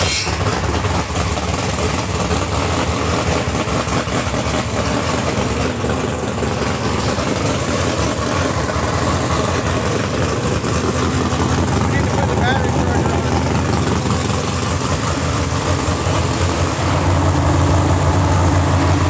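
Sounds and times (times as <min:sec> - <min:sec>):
boat engine loud idle: 0:00.0 - 0:19.0.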